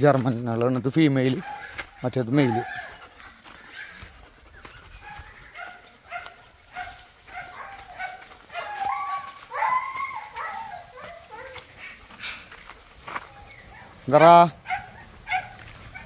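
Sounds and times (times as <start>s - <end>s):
dogs yipping and whining: 1.4s - 16.0s.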